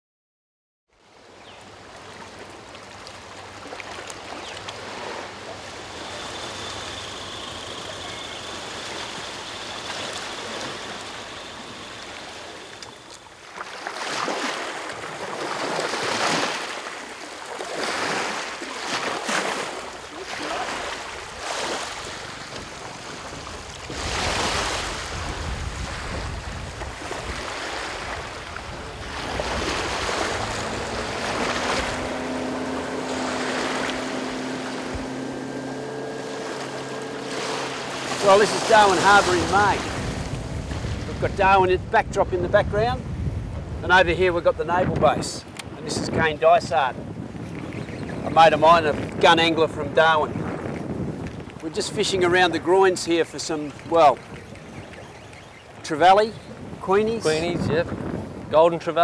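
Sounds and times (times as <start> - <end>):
small waves lapping: 0.9 - 42.2, 45.4 - 59.0.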